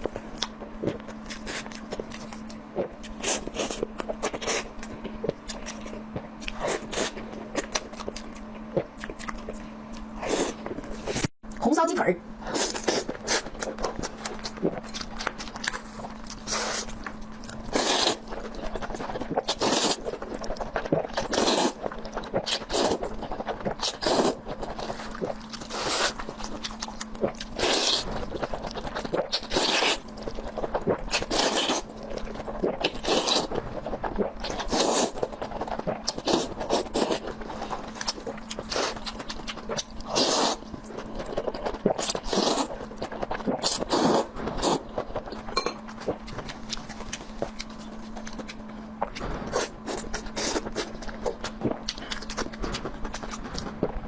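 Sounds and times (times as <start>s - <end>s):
wet chewing and biting: 0.0s - 11.3s, 12.5s - 54.0s
faint steady hum: 0.0s - 54.0s.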